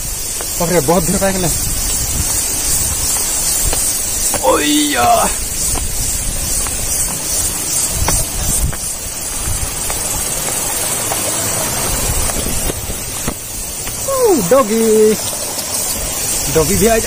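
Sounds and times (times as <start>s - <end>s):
waterfall rushing hiss: 0.0s - 17.0s
wind buffeting microphone: 0.0s - 17.0s.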